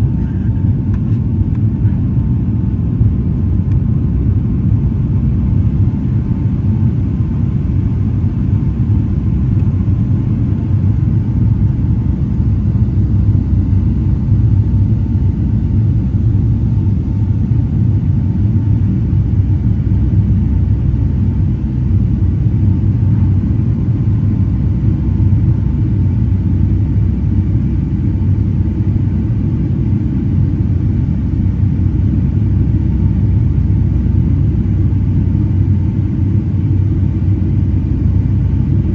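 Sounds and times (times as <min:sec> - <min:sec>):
aircraft cabin engine rumble: 0:00.0 - 0:38.9
faint steady hum: 0:00.0 - 0:38.9.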